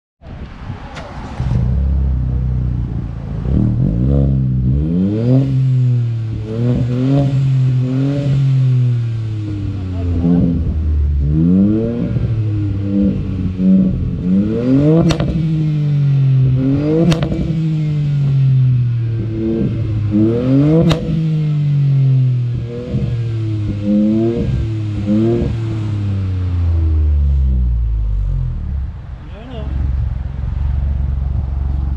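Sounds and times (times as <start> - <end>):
exhaust pops: 0.3 - 31.9
car engine revving: 0.6 - 31.9.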